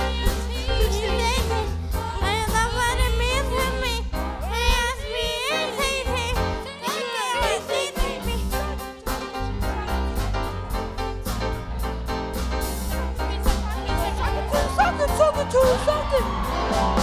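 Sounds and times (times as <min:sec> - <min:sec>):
strong bass: 0:00.0 - 0:06.7, 0:08.0 - 0:17.0
upbeat song with sung vocals: 0:00.0 - 0:17.0.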